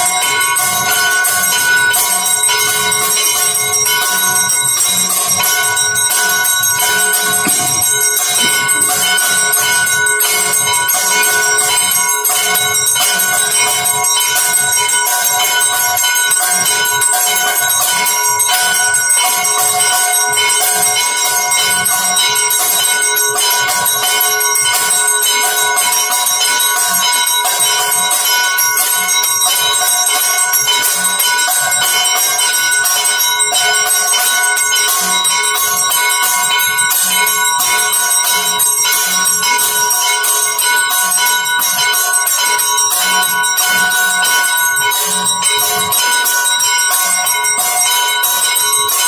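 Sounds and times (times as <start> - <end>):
temple bells ringing: 0.0 - 49.0.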